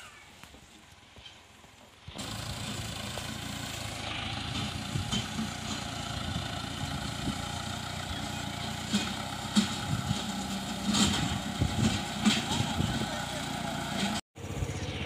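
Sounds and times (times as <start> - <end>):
tractor diesel engine running: 0.3 - 15.0.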